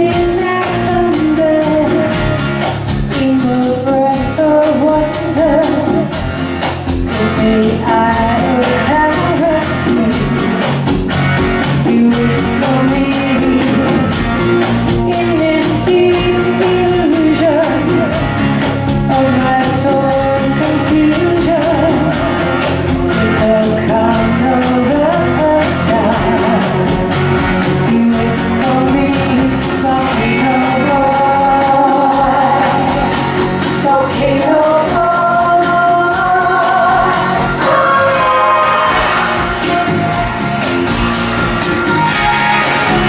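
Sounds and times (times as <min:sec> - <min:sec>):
live pop-rock band: 0:00.0 - 0:43.0.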